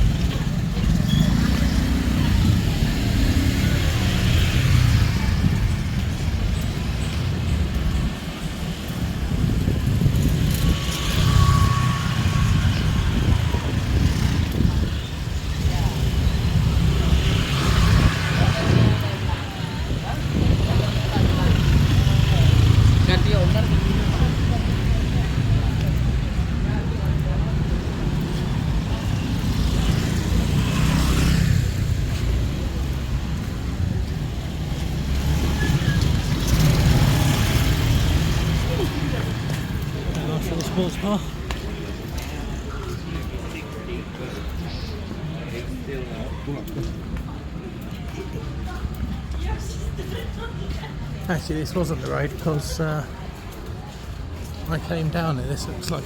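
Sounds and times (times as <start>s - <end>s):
traffic engines rumbling: 0.0s - 56.0s.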